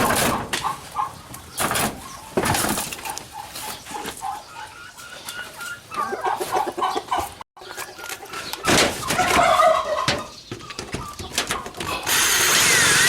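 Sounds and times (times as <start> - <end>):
poultry calling: 0.0 - 12.2.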